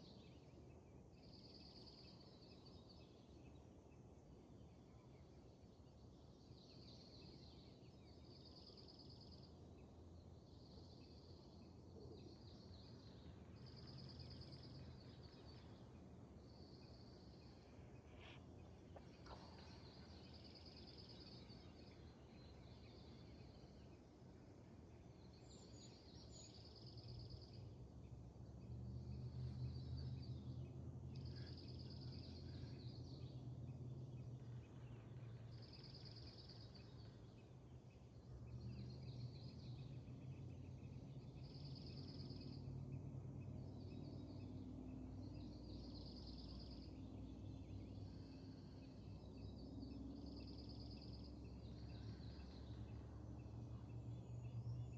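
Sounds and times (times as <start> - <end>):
low steady rumble: 10.2 - 54.9.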